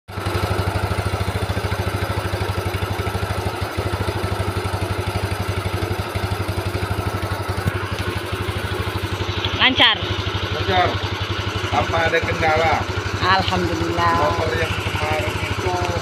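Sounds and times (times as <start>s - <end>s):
scooter engine idling: 0.1s - 16.0s.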